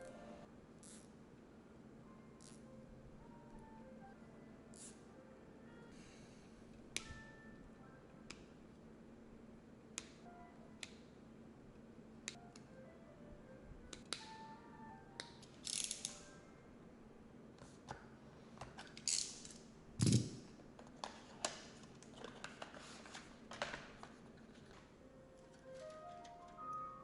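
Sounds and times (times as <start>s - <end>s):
soft background music: 0.0s - 19.6s, 24.6s - 27.0s.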